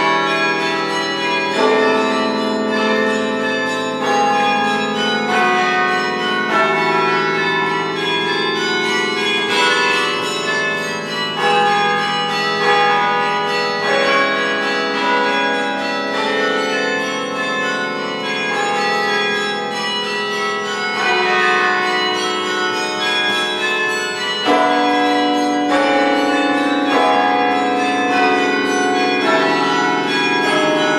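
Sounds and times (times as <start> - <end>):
carillon bells ringing: 0.0 - 30.9.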